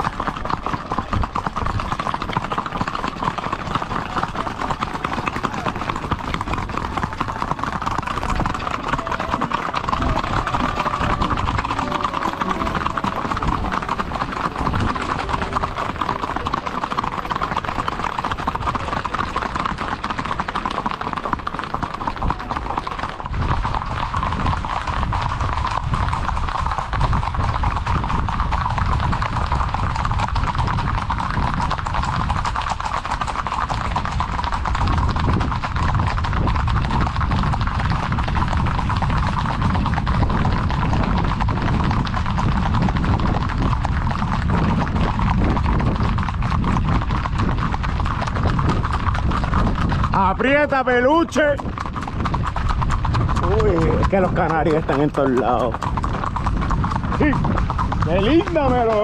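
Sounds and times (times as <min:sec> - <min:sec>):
horse hooves clip-clopping: 0:00.0 - 0:59.0.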